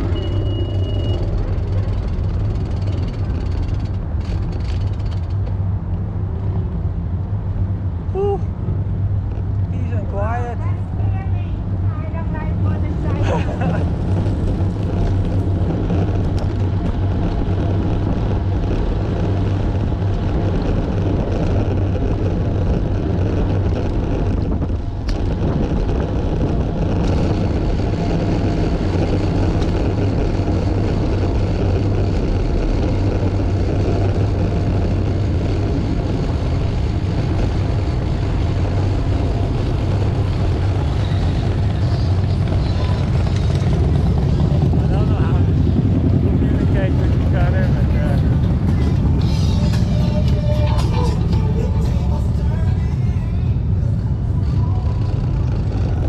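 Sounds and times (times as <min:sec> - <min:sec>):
motor vehicle hum: 0:00.0 - 0:56.0.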